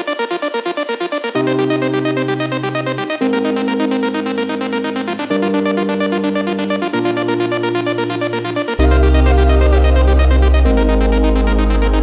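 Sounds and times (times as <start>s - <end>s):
pulsing synthesizer chords: 0.0s - 12.0s.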